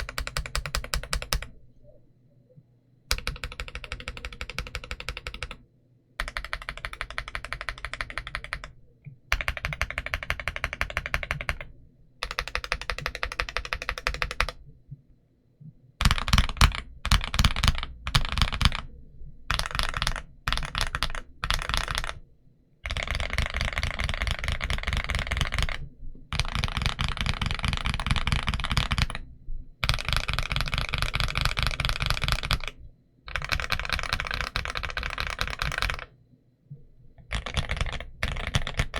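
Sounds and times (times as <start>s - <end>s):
mechanical keyboard typing: 0.0s - 1.6s, 3.1s - 5.6s, 6.2s - 14.6s, 16.0s - 18.9s, 19.5s - 22.2s, 22.8s - 36.1s, 37.2s - 38.9s.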